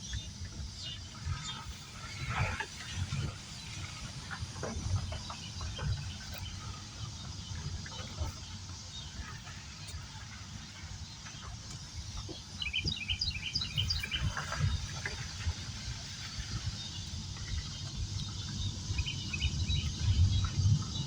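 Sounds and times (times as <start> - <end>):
low outdoor rumble: 0.0 - 21.0
small songbird chirping: 0.0 - 21.0.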